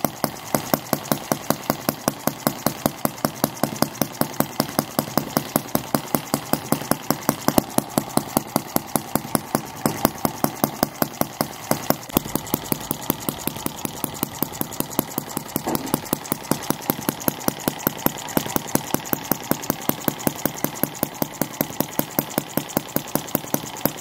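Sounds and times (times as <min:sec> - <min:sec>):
model engine running: 0:00.0 - 0:24.0.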